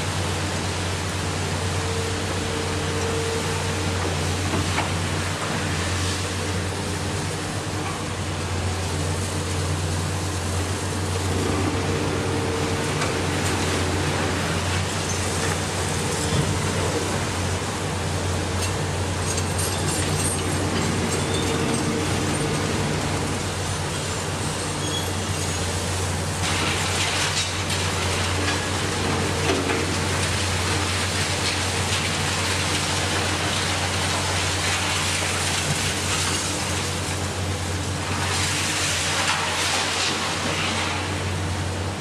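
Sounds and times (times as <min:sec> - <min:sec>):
excavator diesel engines running: 0:00.0 - 0:42.0.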